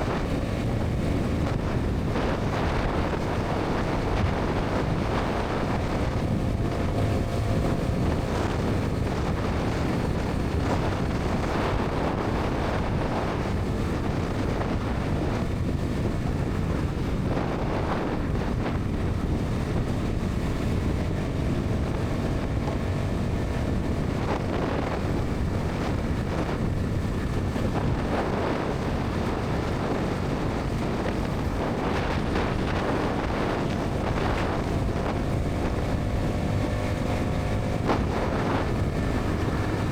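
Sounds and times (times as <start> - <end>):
motorcycle engine and exhaust: 0.0 - 39.9
wind buffeting microphone: 0.0 - 39.9.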